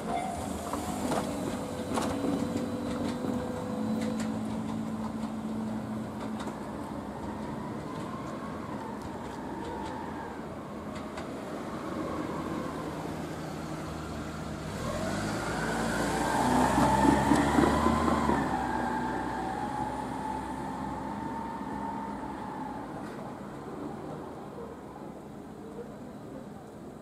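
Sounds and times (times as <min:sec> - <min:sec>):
passing vehicle whining hum: 0:00.0 - 0:27.0.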